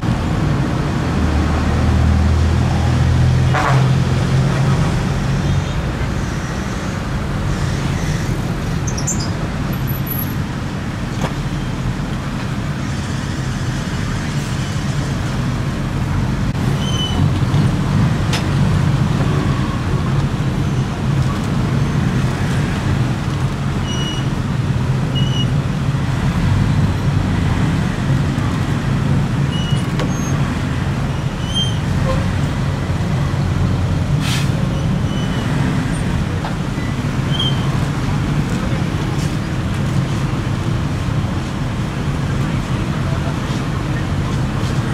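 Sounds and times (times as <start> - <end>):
passing road traffic: 0.0 - 44.9.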